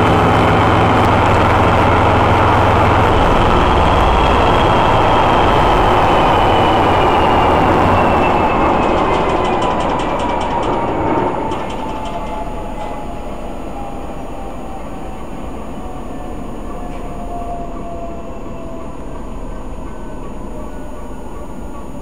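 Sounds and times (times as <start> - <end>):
diesel engine running: 0.0 - 22.0
whine falling in pitch: 0.0 - 22.0.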